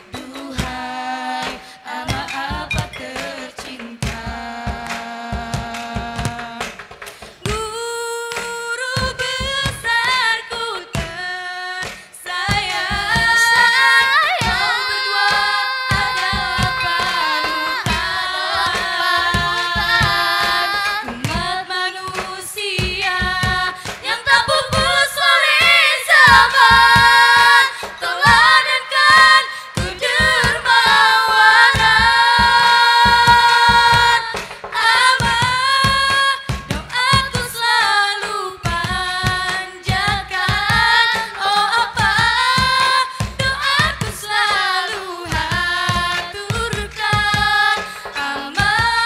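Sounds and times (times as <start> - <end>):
girls singing into microphones: 0.0 - 49.0
percussion beats: 0.0 - 49.0.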